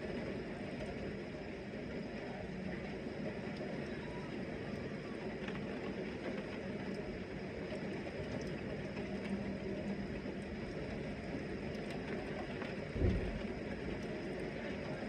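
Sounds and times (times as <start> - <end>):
rain ticks: 0.1 - 15.0.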